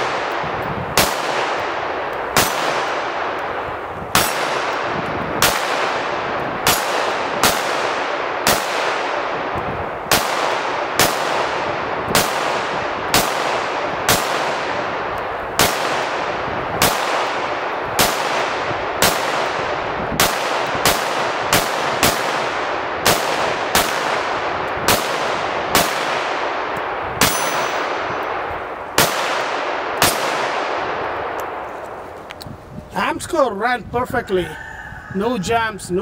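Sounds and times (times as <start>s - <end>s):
pistol shots with echo: 0.0s - 31.6s.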